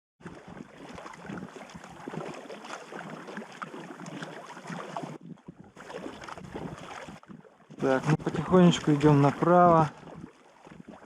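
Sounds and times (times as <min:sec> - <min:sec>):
water splashing and dripping: 0:00.2 - 0:11.0.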